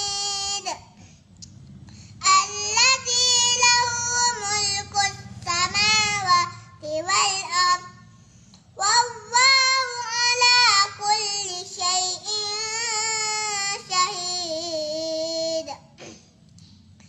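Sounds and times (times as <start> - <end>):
boy chanting recitation: 0.0 - 1.4, 2.1 - 16.0.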